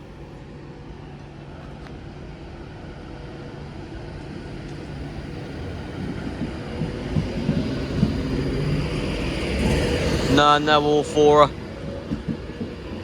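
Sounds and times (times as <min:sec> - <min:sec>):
electric train rumble and whine: 0:00.0 - 0:13.0.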